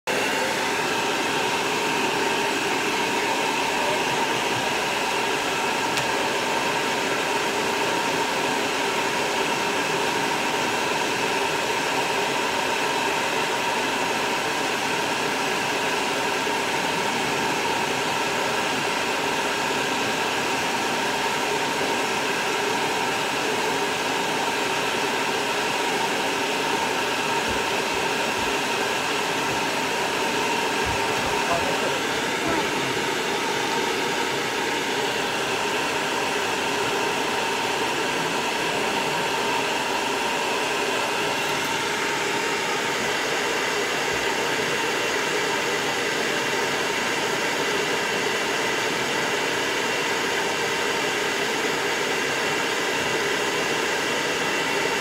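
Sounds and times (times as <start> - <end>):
pet dryer blowing air: 0.0 - 55.0.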